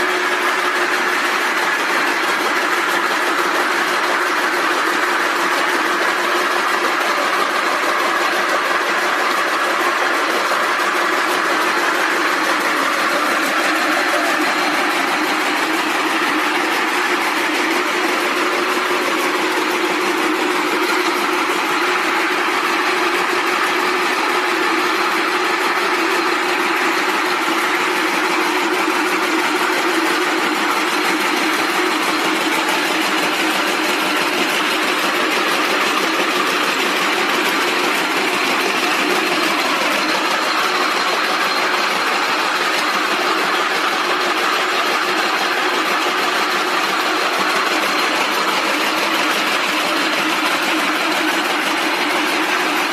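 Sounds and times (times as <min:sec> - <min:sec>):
dense mechanical clatter: 0:00.0 - 0:52.9
machine hum: 0:00.0 - 0:52.9.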